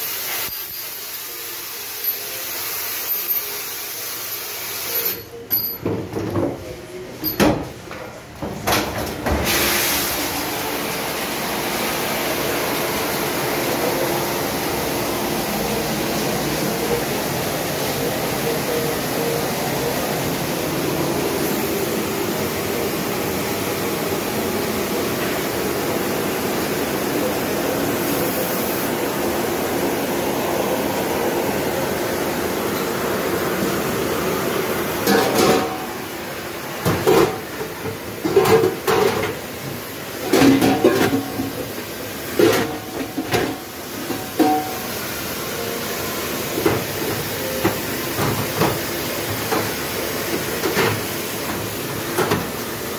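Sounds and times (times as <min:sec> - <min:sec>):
dishwasher spraying water: 0:00.0 - 0:05.4, 0:08.8 - 0:52.9.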